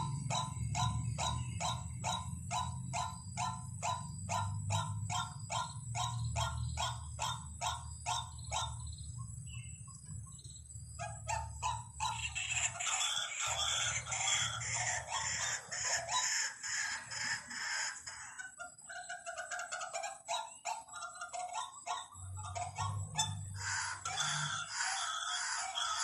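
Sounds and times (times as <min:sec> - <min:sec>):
bird calling repeated notes: 0:00.0 - 0:09.9, 0:11.0 - 0:26.0.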